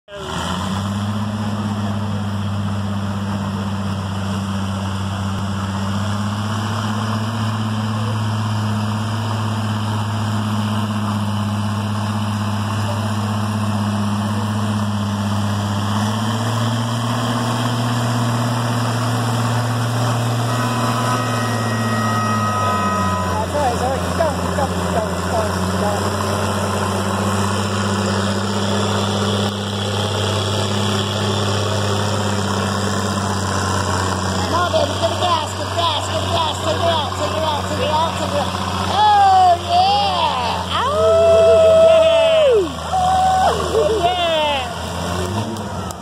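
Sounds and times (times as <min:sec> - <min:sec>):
tractor engine under load: 0:00.1 - 0:46.0.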